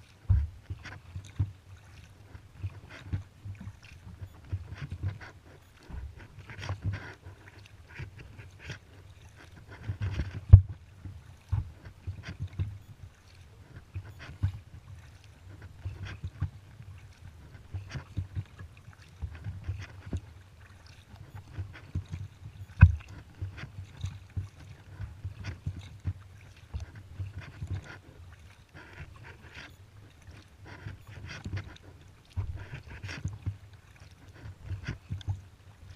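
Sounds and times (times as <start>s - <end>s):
paddle knocking against kayak: 0.0s - 35.9s
paddle splashing in water: 0.0s - 35.9s.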